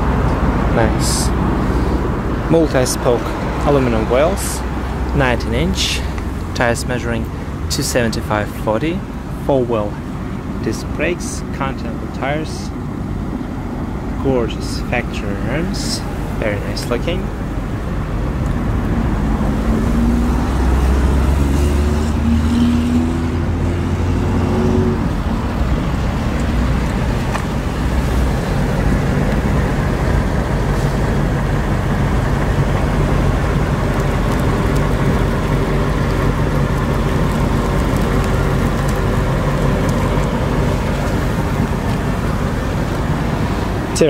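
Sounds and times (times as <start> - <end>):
motor vehicles rumbling: 0.0 - 44.0
pitched engine drone: 0.0 - 44.0.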